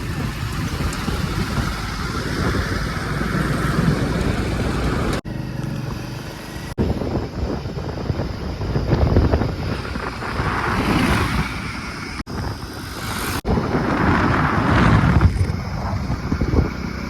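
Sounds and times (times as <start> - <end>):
heavy diesel engine under load: 0.0 - 17.0
wind noise on microphone: 0.0 - 17.0.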